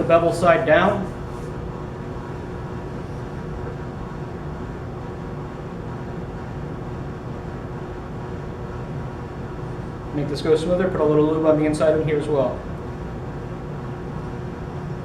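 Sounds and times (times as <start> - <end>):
ventilation fan hum: 0.0 - 15.0.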